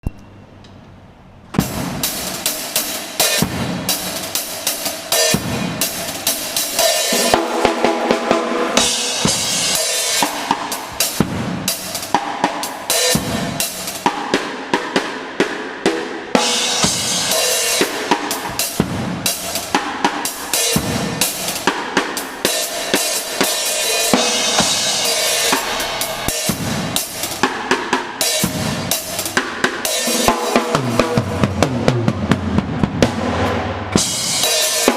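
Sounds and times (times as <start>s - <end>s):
drum kit played fast: 1.6s - 34.9s.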